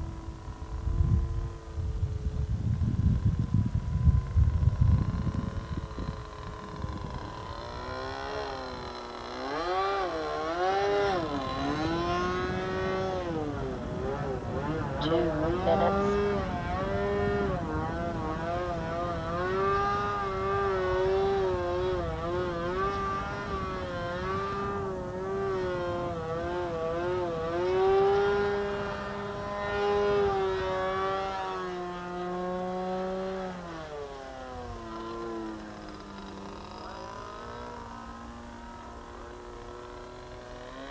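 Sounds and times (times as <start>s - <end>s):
model plane engine: 0.0s - 40.9s.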